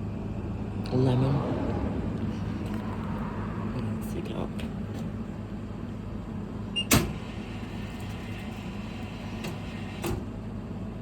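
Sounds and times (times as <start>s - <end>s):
vending machine humming: 2.1s - 11.0s.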